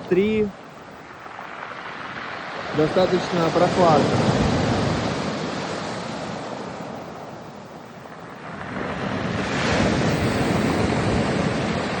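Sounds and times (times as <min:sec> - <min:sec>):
waves washing ashore: 0:00.0 - 0:12.0.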